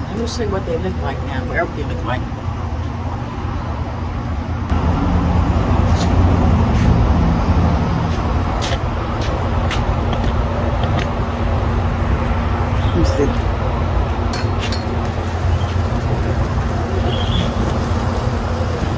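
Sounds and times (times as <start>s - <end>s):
low rumbling noise: 0.0s - 18.9s.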